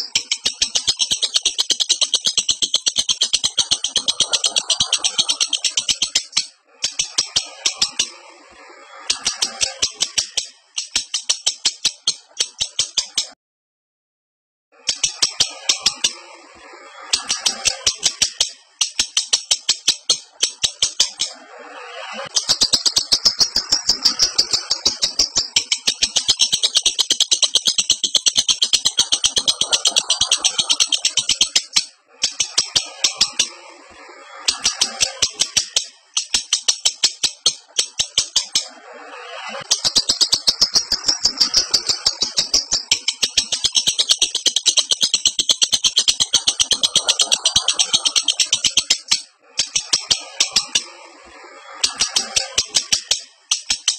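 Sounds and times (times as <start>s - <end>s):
lovebird chattering: 0.0s - 8.3s, 9.0s - 13.4s, 14.9s - 16.4s, 17.0s - 33.7s, 34.4s - 50.9s, 51.8s - 53.9s.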